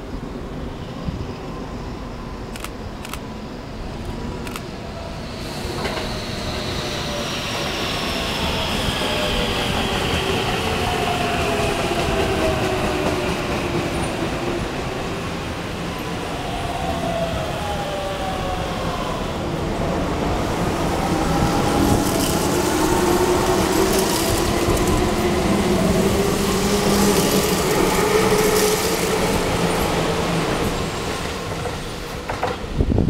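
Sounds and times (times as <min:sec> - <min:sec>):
falling whine of braking train: 0:00.0 - 0:33.0
wheels rumbling on rail: 0:05.4 - 0:33.0.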